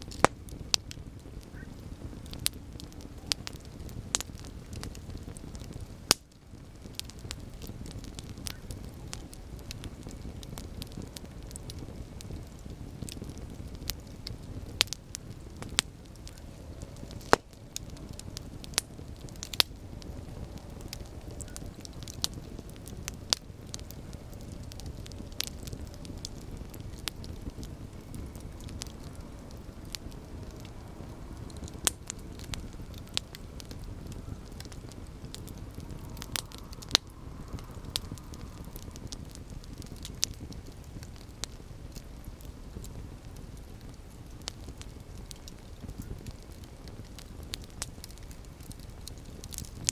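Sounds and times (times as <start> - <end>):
rumble of campfire flames: 0.0 - 49.9
wood crackling and popping: 0.0 - 49.9.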